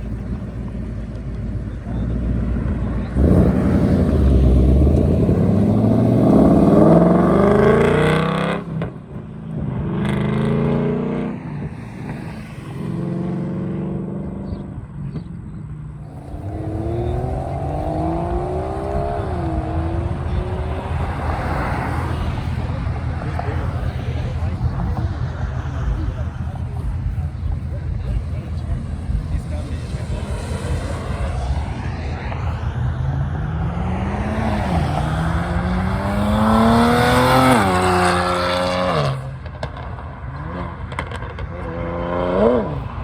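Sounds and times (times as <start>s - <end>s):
car engines accelerating hard: 0.0s - 43.0s.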